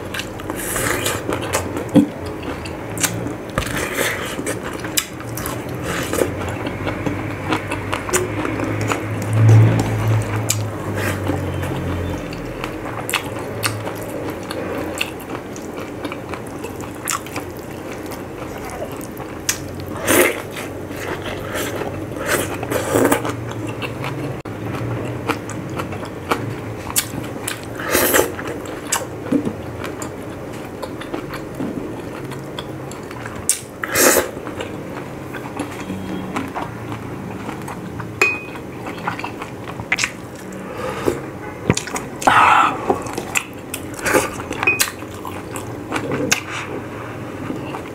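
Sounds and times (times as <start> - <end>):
man chewing food: 0.0 - 47.9.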